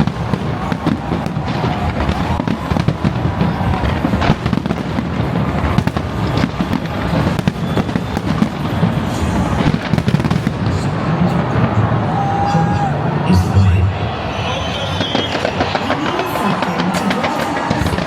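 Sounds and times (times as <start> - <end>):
fireworks bangs and crackling: 0.0 - 12.9, 14.4 - 18.0.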